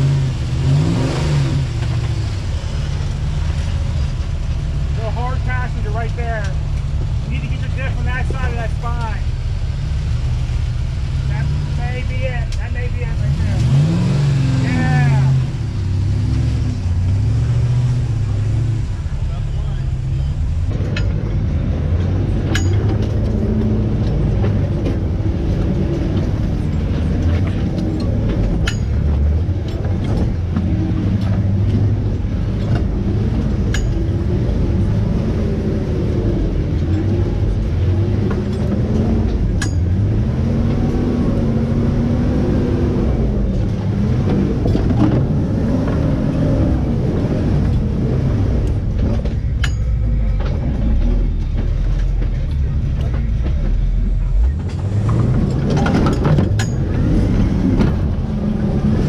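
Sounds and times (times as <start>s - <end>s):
off-road vehicle engine rumbling: 0.0s - 59.0s.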